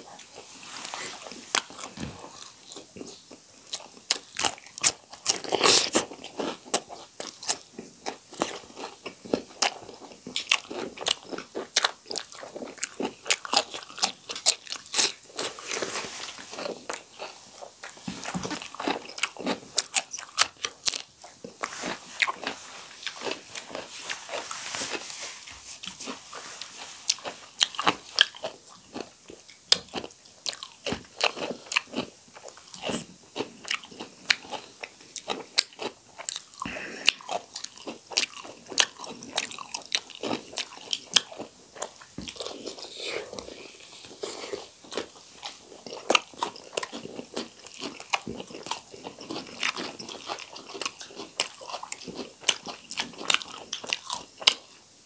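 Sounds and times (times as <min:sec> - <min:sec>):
crunching bites and wet chewing: 0:00.2 - 0:54.8.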